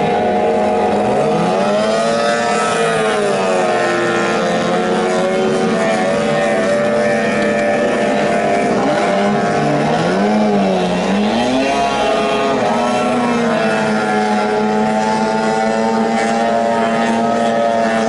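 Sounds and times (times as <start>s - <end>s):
outboard motors running flat out: 0.0s - 18.0s.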